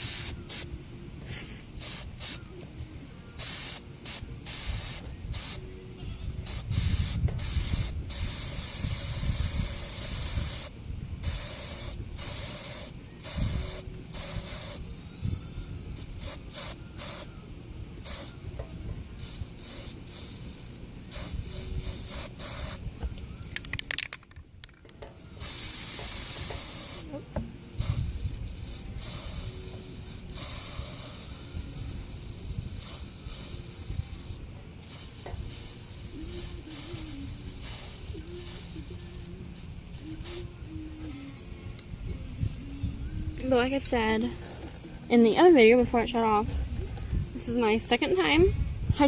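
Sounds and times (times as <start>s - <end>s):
spray paint can hissing: 0.0s - 42.1s.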